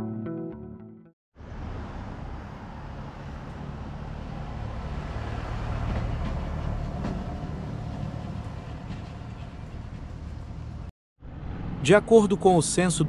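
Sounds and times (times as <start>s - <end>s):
vehicle rumble: 1.4s - 13.0s.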